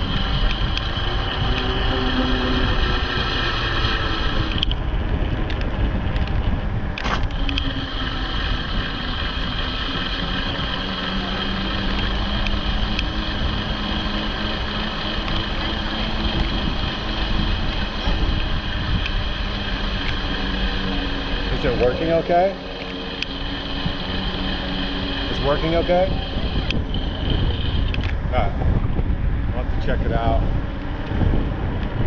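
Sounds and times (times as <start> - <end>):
electric motor whine: 0.0 - 32.0
wind rushing over microphone: 0.0 - 32.0.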